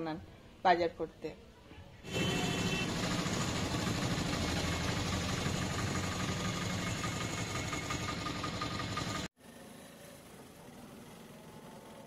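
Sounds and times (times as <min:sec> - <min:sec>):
auto-rickshaw engine running: 0:02.1 - 0:12.0.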